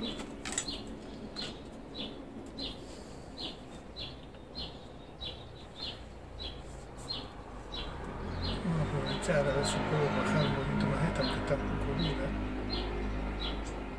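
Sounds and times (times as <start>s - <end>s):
small bird chirping: 0.0s - 13.9s.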